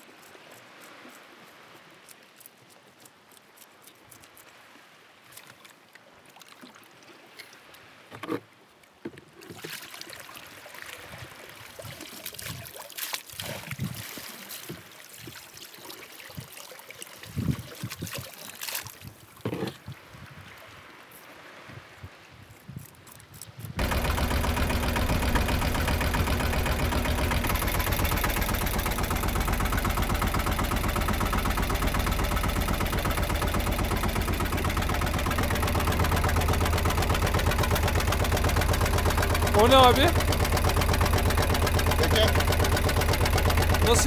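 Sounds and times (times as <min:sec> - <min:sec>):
faint water lapping: 0:00.0 - 0:44.0
water sloshing and splashing: 0:00.0 - 0:44.0.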